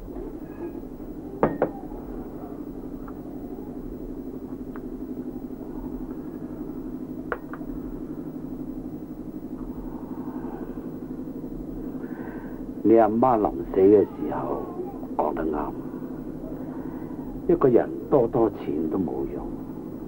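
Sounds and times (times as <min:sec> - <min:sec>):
low fluttering mechanical drone: 0:00.0 - 0:20.0.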